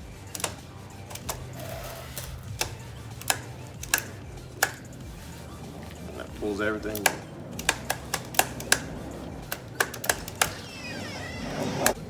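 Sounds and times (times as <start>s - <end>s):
string trimmer head ratcheting clicks: 0.0s - 10.6s.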